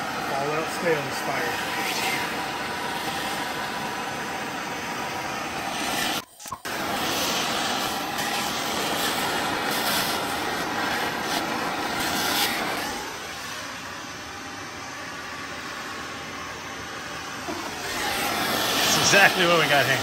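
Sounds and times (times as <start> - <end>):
gas torch hissing: 0.0 - 20.0.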